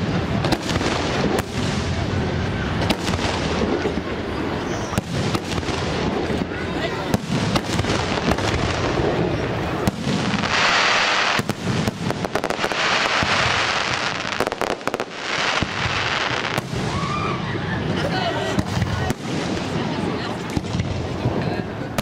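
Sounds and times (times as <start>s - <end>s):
firework bangs: 0.0s - 22.0s
firework hiss: 0.0s - 22.0s.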